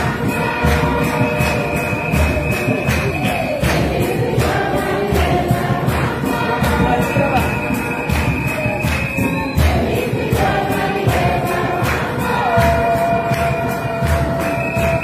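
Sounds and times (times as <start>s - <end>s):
choir singing a hymn: 0.0s - 15.0s
drum beating: 0.0s - 15.0s
rhythmic hand claps: 0.0s - 15.0s.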